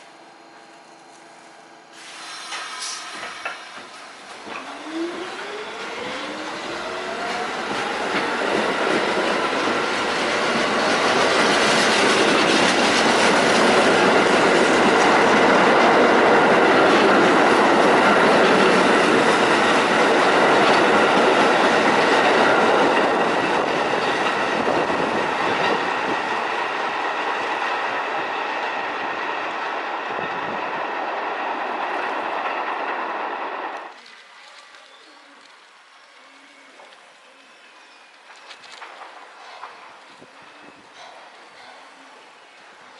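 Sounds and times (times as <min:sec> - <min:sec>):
subway train running past: 0:00.0 - 0:42.9.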